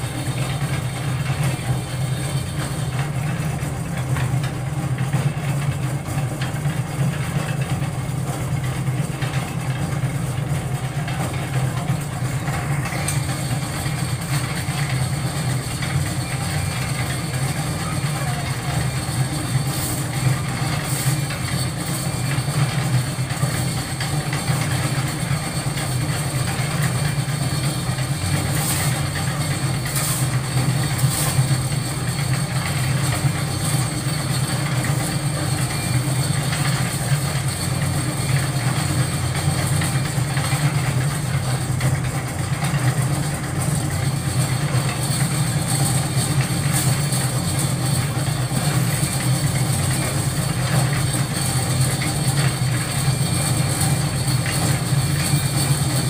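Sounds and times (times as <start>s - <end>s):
concrete mixer engine droning: 0.0s - 56.0s.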